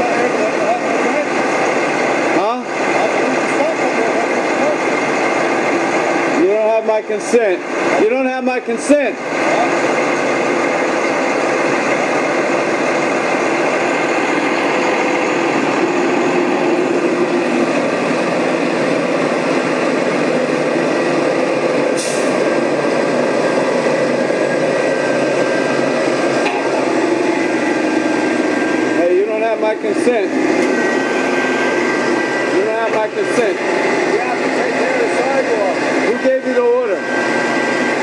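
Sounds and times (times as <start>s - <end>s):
machinery engine drone: 0.0s - 38.0s.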